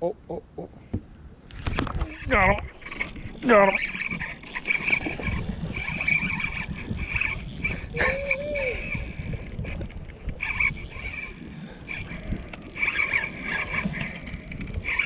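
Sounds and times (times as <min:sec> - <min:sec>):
wind: 0:00.0 - 0:15.0
fishing reel gears whirring: 0:01.8 - 0:15.0.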